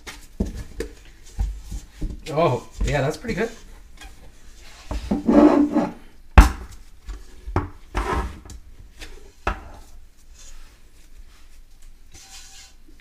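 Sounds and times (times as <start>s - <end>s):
hands kneading playdough in pot: 0.0s - 13.0s.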